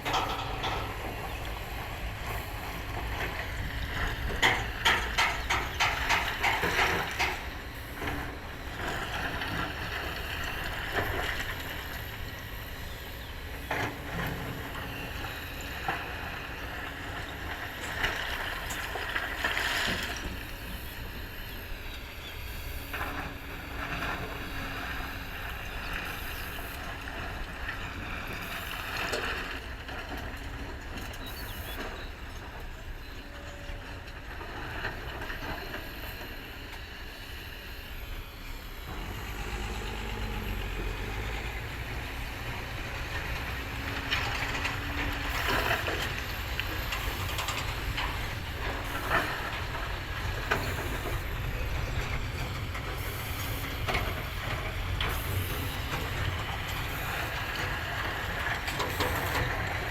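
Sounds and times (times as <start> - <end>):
diesel engine rumbling: 0.0 - 35.7, 37.5 - 59.9.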